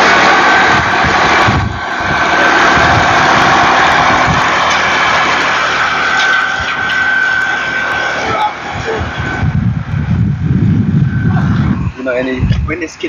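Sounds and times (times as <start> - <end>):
road roller engine running: 0.0 - 12.0
high whine: 0.0 - 13.0.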